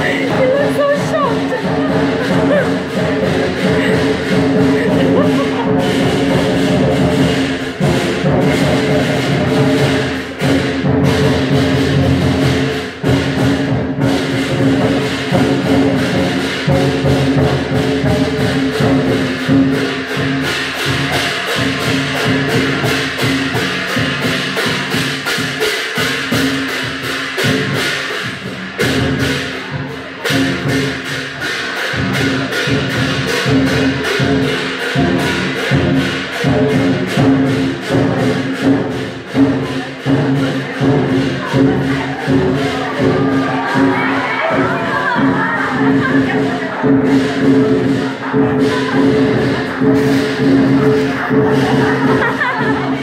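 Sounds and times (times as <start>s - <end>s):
cymbals crashing: 0.0s - 53.0s
drum beating: 0.0s - 53.0s.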